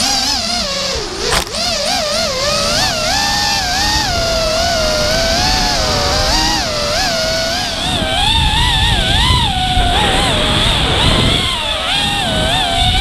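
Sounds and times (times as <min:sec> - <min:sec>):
drone motors whining: 0:00.0 - 0:13.0
wind rumble: 0:00.4 - 0:13.0.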